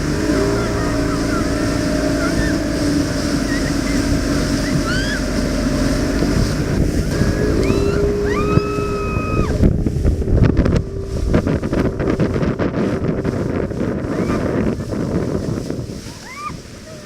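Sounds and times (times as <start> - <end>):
motorboat engine running: 0.0 - 17.0
rushing water: 0.0 - 17.0
wind buffeting microphone: 0.0 - 17.0.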